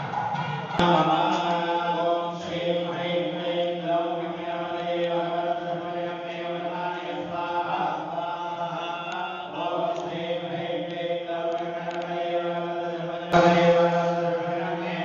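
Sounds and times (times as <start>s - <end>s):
priests chanting: 0.0s - 15.0s.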